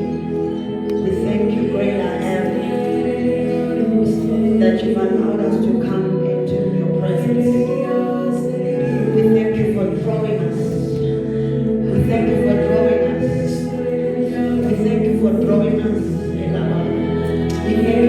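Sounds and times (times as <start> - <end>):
voices singing worship music: 0.0 - 18.0.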